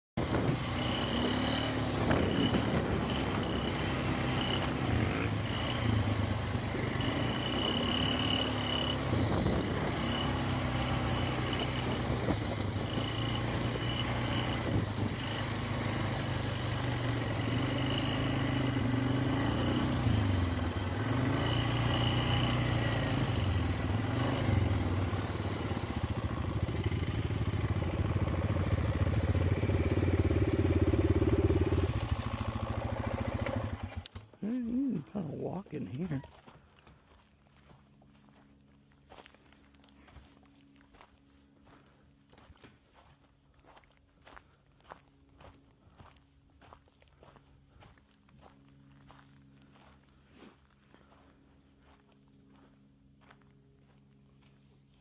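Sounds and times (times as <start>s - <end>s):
atv engine running: 0.2s - 55.0s.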